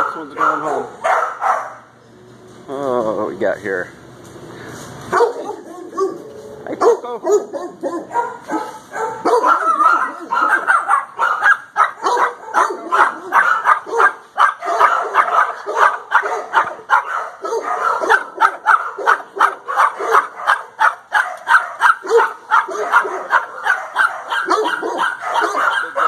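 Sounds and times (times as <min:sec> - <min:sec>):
dogs barking and yipping: 0:00.0 - 0:01.9, 0:05.1 - 0:26.0.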